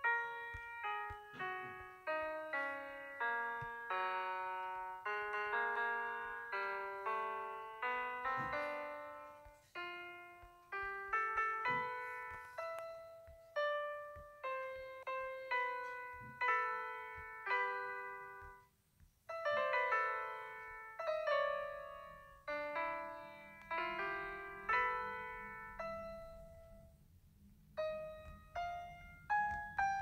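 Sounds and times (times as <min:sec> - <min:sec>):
piano melody: 0:00.0 - 0:30.0.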